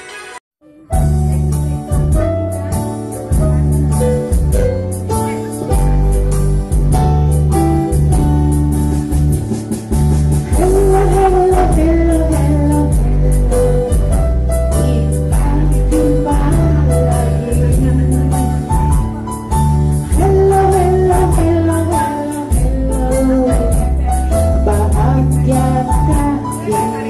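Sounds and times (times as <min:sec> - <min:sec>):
keyboard bass and chords: 0:00.0 - 0:27.0
wavering keyboard melody: 0:00.0 - 0:27.0.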